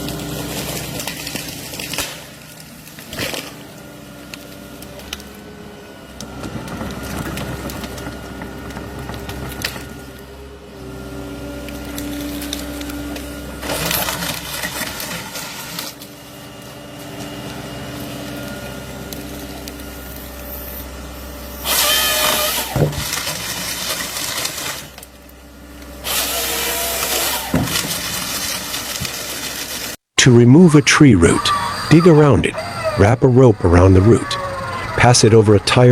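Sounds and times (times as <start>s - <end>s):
motor-driven machine humming: 0.0s - 30.0s, 31.1s - 35.9s.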